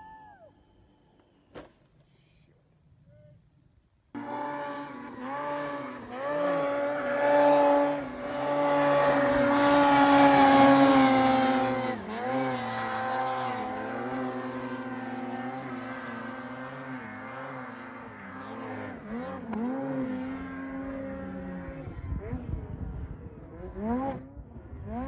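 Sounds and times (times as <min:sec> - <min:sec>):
snowmobile engine revving: 0:04.1 - 0:25.0.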